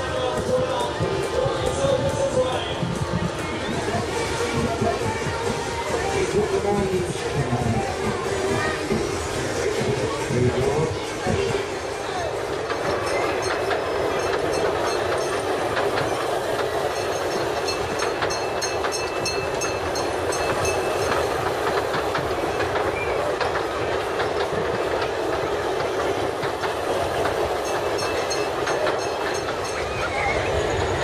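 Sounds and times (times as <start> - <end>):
fairground ride machinery clatter: 0.0 - 31.0.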